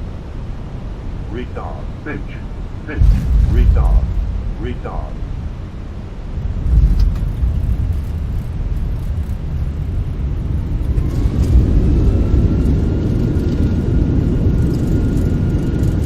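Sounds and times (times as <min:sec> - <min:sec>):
jet engines whining: 0:00.0 - 0:08.1, 0:09.8 - 0:16.0
runway and airframe rumble: 0:00.0 - 0:16.0.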